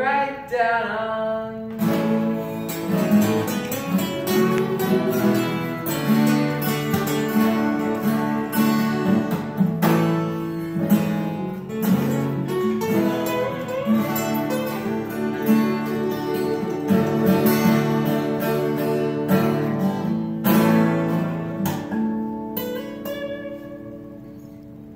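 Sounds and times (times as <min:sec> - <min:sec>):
acoustic guitars strumming chords: 0:01.5 - 0:24.9.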